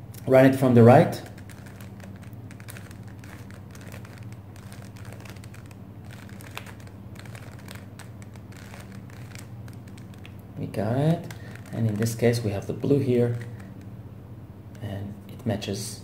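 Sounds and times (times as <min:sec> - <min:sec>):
puzzle cube clicks and rattles: 0:00.8 - 0:14.0.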